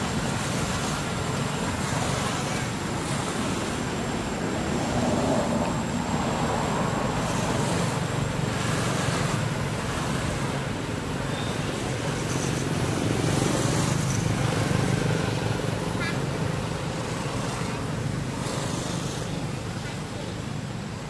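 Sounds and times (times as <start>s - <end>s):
motorbike passing: 0.0s - 20.7s
road traffic noise: 0.0s - 21.0s.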